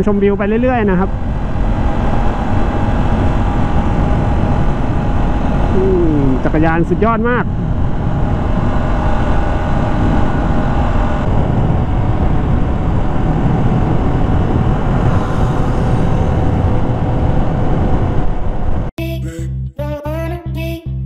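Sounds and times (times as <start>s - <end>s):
wind rumble on microphone: 0.0s - 18.9s
motorcycle engine drone: 0.0s - 19.5s.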